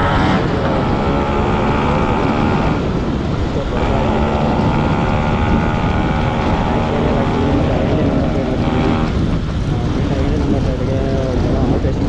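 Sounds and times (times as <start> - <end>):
two-stroke motorcycle running: 0.0 - 12.0
wind rush on microphone: 0.0 - 12.0.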